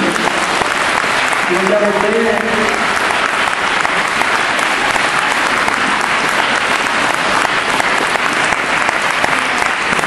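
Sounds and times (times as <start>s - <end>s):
congregation applauding: 0.0s - 10.0s.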